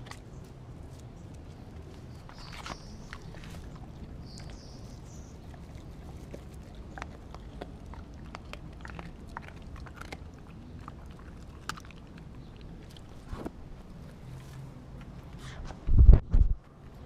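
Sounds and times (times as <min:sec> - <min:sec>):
dog chewing raw meat: 0:00.0 - 0:14.2.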